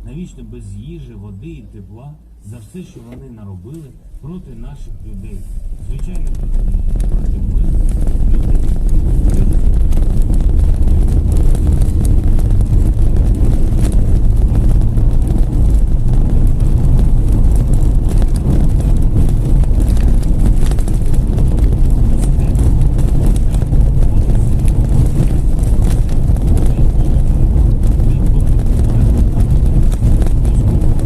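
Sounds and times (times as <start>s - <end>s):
wind buffeting microphone: 3.9s - 31.0s.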